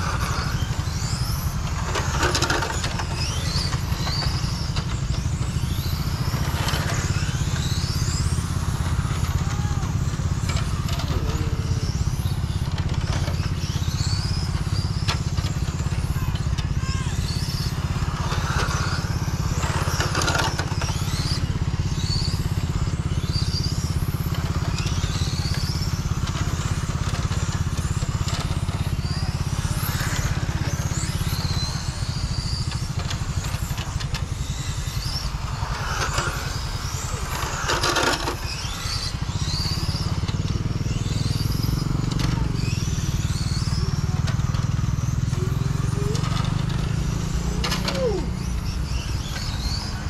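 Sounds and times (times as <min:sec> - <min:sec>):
electric motor whine: 0:00.0 - 0:50.0.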